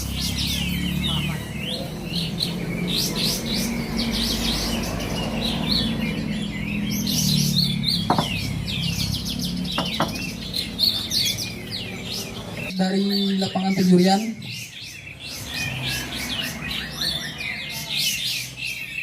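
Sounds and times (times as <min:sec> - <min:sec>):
songbirds singing and chirping: 0:00.0 - 0:19.0.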